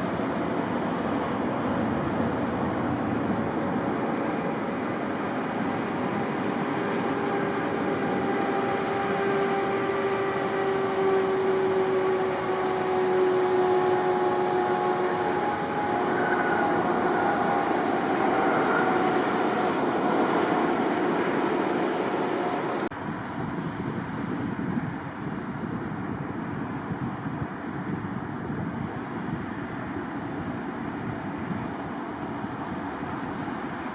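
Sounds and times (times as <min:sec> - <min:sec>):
jet airliner passing close: 0:00.0 - 0:33.9.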